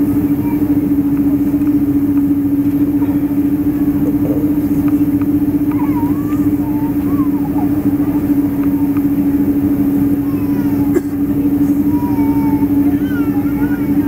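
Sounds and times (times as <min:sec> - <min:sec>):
jet engines humming: 0:00.0 - 0:14.0
steady rumble: 0:00.0 - 0:14.0.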